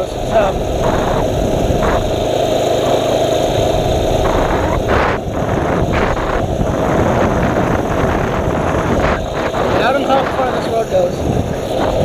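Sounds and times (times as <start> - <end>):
rushing noise: 0.0 - 12.0
small bike engine running: 0.0 - 12.0.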